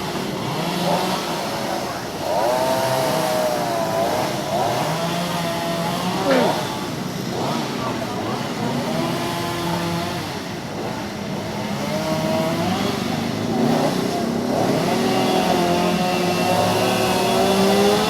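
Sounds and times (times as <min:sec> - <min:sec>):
vehicle engines revving: 0:00.0 - 0:18.0.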